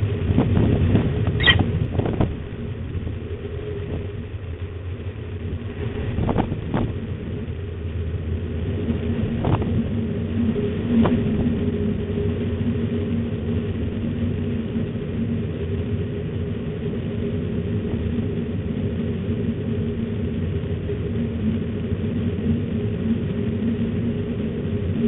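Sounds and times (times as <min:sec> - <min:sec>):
constant low hum: 0:00.0 - 0:25.0
low rumble: 0:00.0 - 0:25.0.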